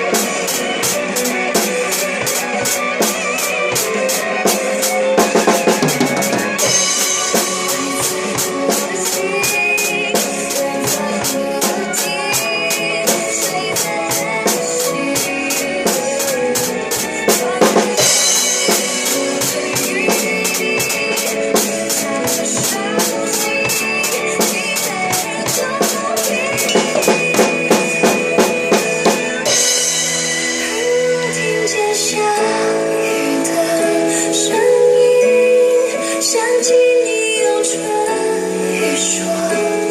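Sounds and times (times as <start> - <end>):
drum kit playing: 0.0 - 39.9
pop backing track: 0.0 - 39.9.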